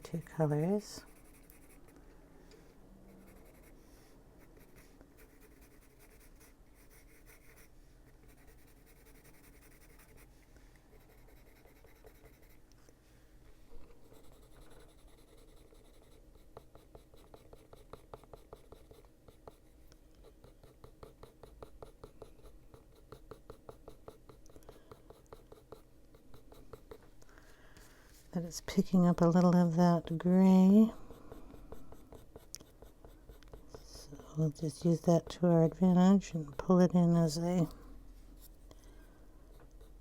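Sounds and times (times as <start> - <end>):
pencil scratching on paper: 0.0 - 1.9, 3.1 - 10.3, 10.9 - 12.6, 13.9 - 27.0, 28.4 - 37.6, 39.5 - 40.0.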